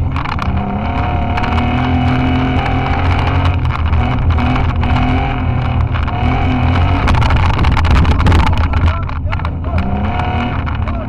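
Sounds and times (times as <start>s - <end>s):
off-road vehicle engine running hard: 0.0s - 11.0s.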